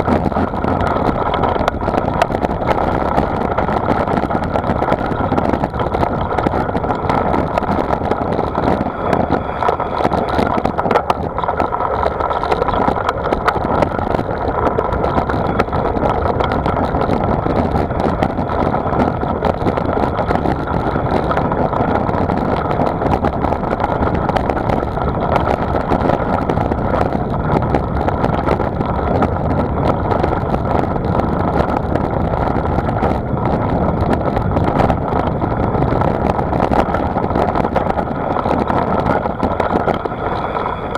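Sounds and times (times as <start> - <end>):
bicycle tyre and road rumble: 0.0 - 40.9
wind rushing over microphone: 0.0 - 40.9.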